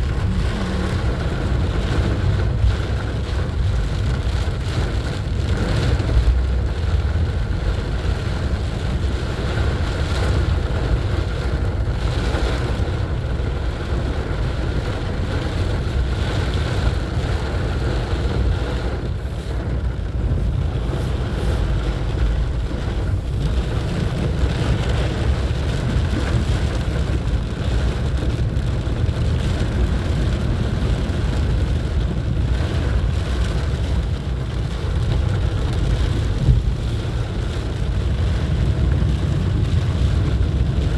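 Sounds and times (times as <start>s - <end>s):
car engine and tyres rumbling: 0.0s - 40.9s
water rushing under tyres: 0.0s - 40.9s.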